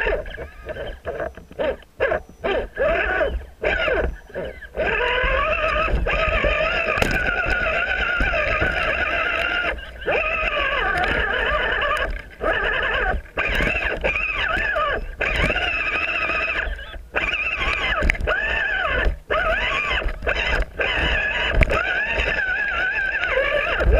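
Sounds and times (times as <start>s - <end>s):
electric motor and gearbox whining: 0.0s - 23.9s.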